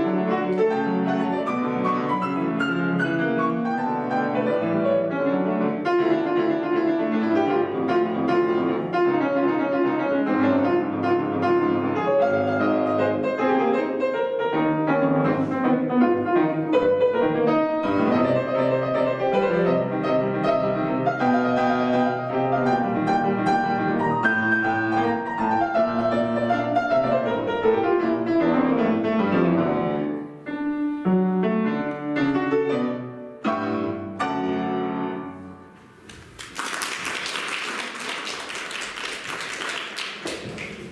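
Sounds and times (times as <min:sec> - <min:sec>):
piano playing classical piece: 0:00.0 - 0:36.4.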